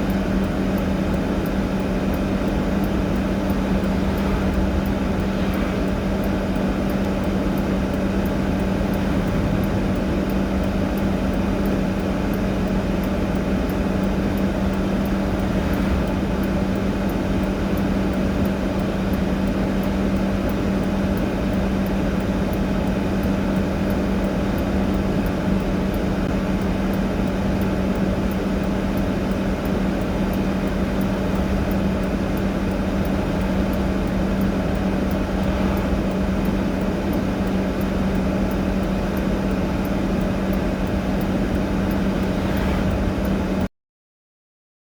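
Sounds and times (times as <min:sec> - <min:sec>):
vehicle engine idling: 0:00.0 - 0:43.7.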